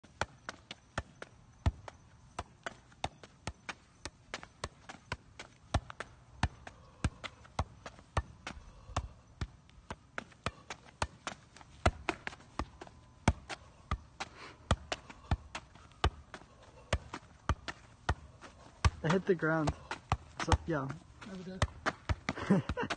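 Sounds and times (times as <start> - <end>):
ball thumping on feet: 0.0 - 22.9.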